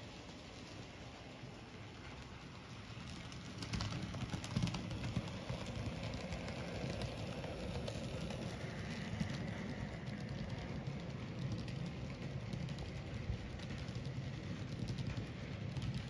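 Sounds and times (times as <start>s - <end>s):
model train rumbling: 0.0s - 16.0s
wheels clicking over rail joints: 0.0s - 16.0s.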